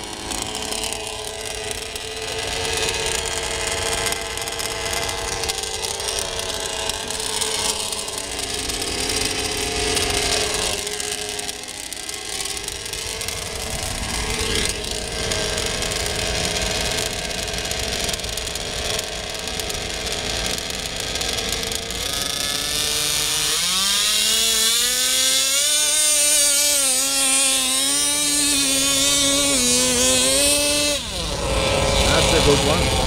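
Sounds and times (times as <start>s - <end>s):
model engines revving high-pitched: 0.0s - 33.0s.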